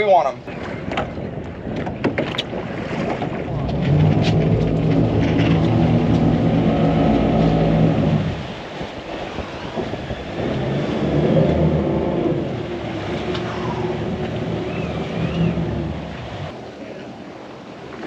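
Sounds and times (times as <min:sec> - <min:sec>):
wind: 0:00.0 - 0:18.0
outboard engines running: 0:00.4 - 0:18.0.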